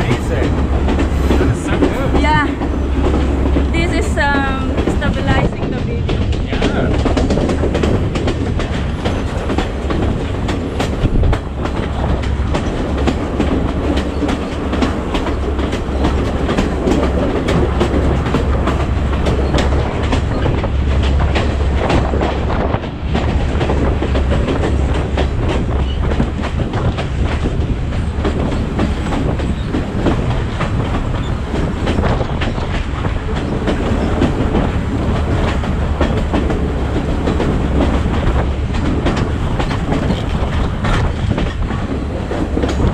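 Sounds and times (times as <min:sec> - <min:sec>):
train rumbling: 0:00.0 - 0:42.9
wheels clattering over rail joints: 0:00.0 - 0:42.9.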